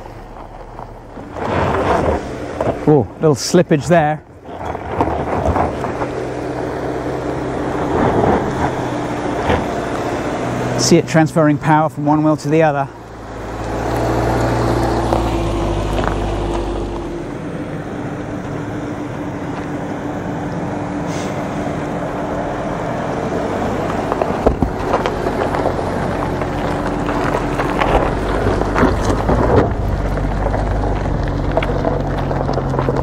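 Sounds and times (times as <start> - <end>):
car engine running at low speed: 0.0 - 33.0
tyres crunching over gravel: 0.0 - 33.0.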